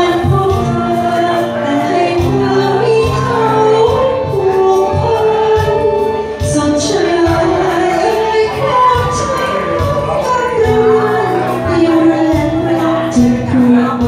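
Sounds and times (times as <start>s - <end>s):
backing music with pulsing bass: 0.0s - 14.0s
woman singing into microphone: 0.0s - 14.0s.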